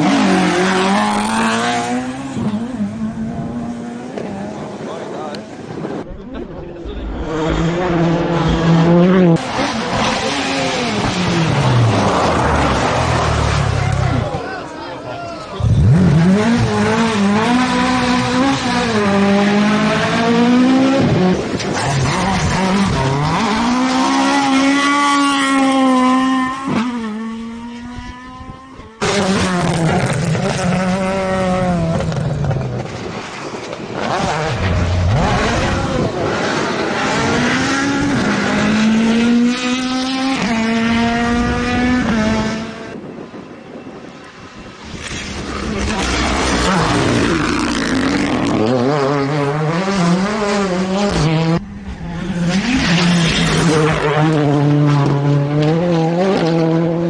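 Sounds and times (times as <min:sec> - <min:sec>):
rally car engine at high revs: 0:00.0 - 0:14.4, 0:15.6 - 0:43.2, 0:44.0 - 0:57.0.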